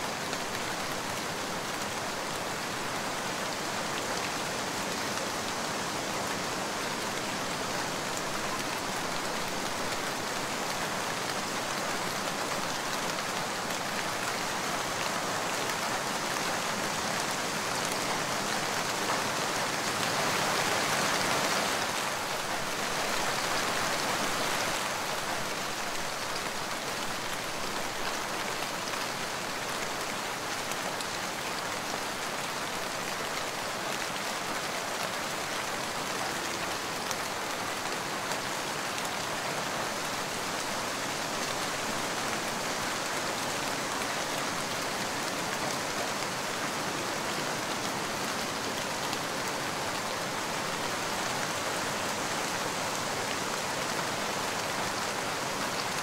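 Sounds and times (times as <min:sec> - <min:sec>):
steady light rain: 0:00.0 - 0:56.0.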